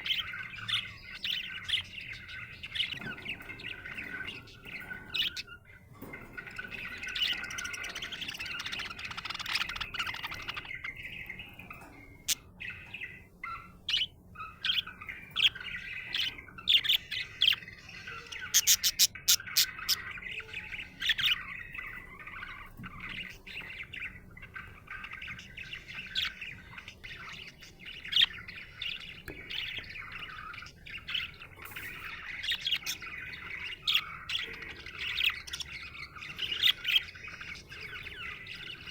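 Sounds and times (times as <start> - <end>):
budgerigar chirping and warbling: 0.0 - 38.9.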